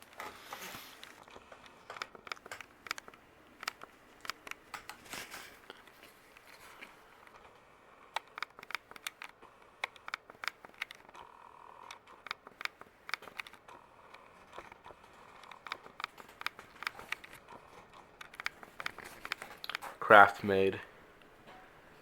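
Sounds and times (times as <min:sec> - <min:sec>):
uneven clicking: 0:00.0 - 0:20.0
ceiling fan running: 0:00.0 - 0:22.0.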